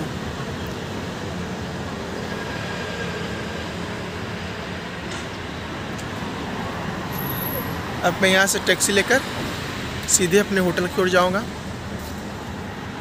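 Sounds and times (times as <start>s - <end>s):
low rumble of city noise: 0.0s - 13.0s.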